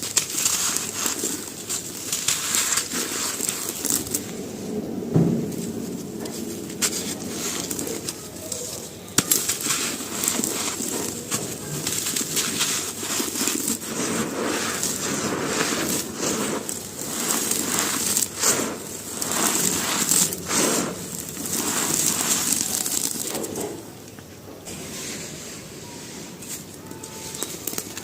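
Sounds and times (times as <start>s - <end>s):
charcoal crunching and crackling: 0.0s - 24.3s, 26.3s - 28.0s.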